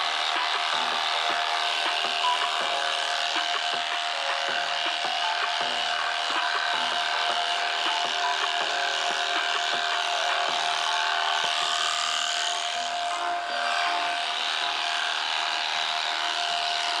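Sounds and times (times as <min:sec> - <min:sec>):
electric shears buzzing: 0:00.0 - 0:17.0.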